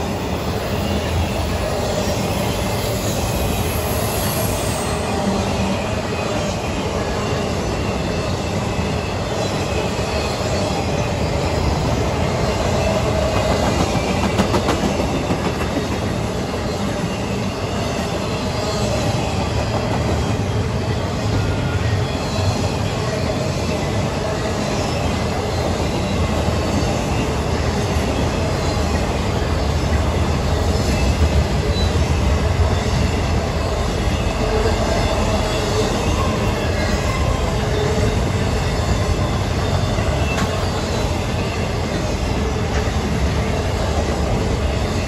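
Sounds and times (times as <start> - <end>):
freight cars rumbling on rails: 0.0 - 45.0.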